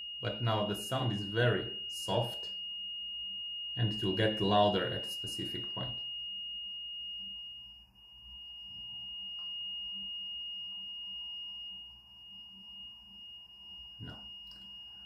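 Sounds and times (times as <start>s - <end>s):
steady high tone: 0.0s - 15.0s.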